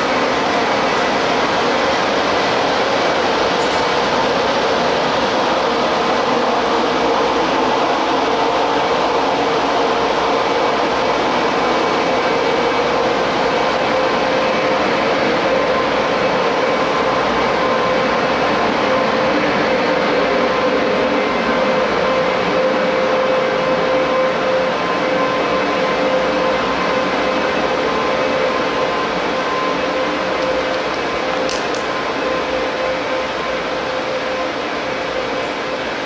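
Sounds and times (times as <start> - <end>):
constant mid-pitched tone: 0.0 - 36.0
electric train equipment humming: 0.0 - 36.0.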